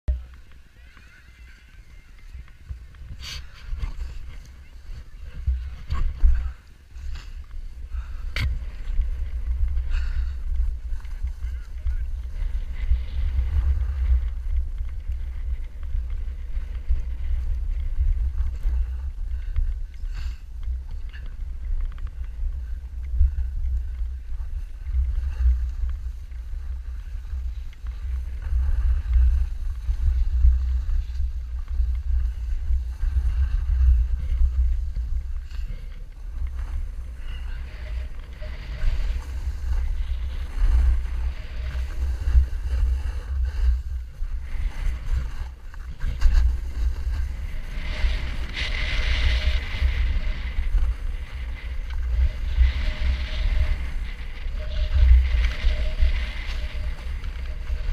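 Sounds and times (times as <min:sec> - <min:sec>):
wind buffeting microphone: 0:00.1 - 0:57.9
snowboard scraping packed snow: 0:00.2 - 0:57.9.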